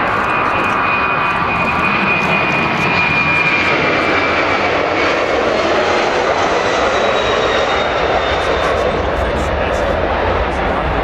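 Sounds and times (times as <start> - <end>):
jet aircraft engines running: 0.0 - 11.0.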